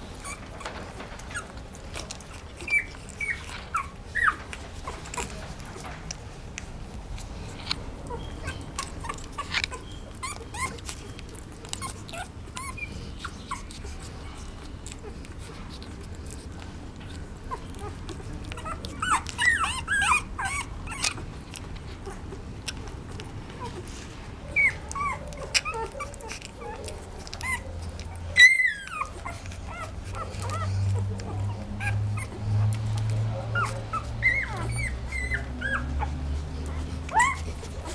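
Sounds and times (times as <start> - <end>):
dog whining and yipping: 0.1 - 5.4, 8.0 - 14.1, 14.9 - 37.9.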